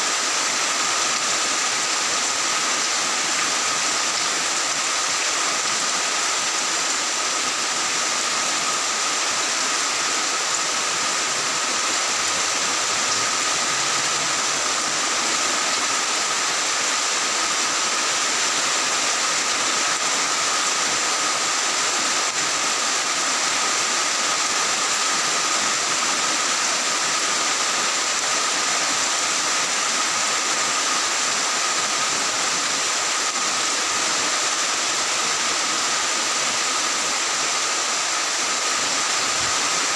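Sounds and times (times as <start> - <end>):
heavy rain on tile roofs: 0.0 - 39.9.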